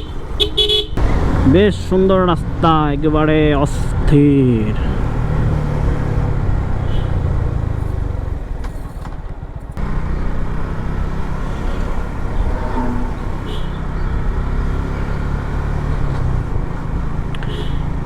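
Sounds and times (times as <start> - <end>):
motorcycle engine: 0.0 - 18.0
road noise: 0.0 - 18.0.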